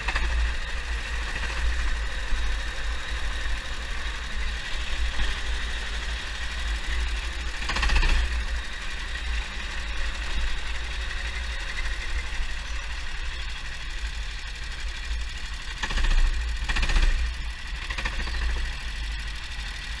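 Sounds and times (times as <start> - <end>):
kart engine rumbling: 0.0 - 20.0.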